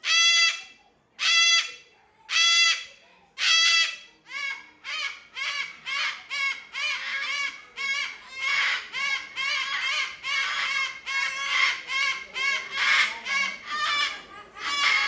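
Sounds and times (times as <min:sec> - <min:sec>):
cockatoos calling: 0:00.0 - 0:15.0.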